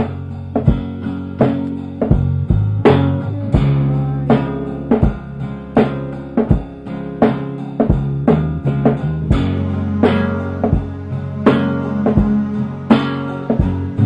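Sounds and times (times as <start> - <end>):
plucked guitar: 0.0 - 14.0
steady drum beat: 0.0 - 14.0
sustained bass line: 0.0 - 14.0.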